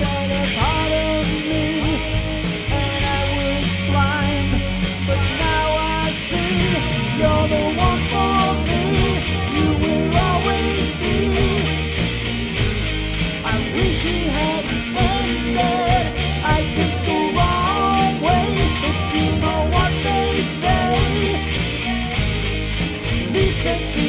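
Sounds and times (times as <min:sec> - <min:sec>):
rock song: 0:00.0 - 0:24.0.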